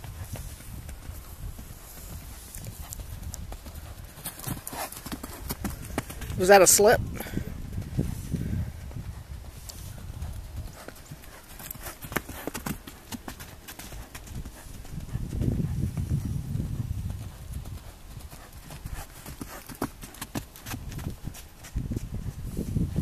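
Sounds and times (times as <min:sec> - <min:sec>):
horse hoofbeats on dirt: 0:00.0 - 0:23.0.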